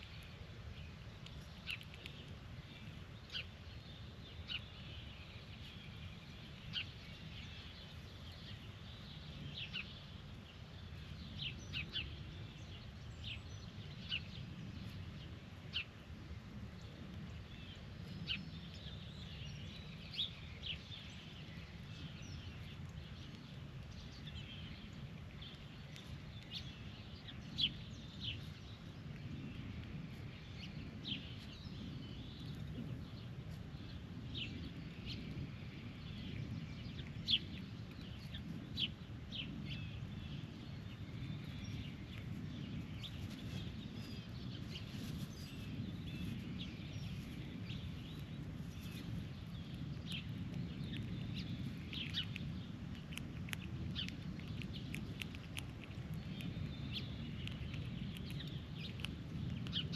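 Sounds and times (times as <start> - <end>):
birds chirping: 0.0 - 59.9
low background rumble: 0.0 - 59.9.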